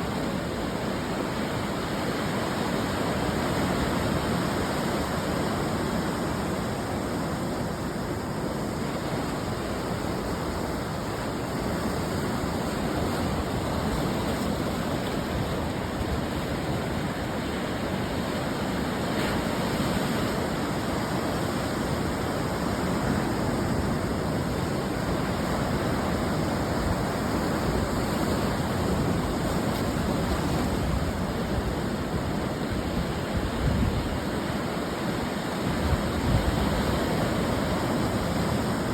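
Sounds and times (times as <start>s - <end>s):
ocean surf breaking: 0.0s - 38.9s.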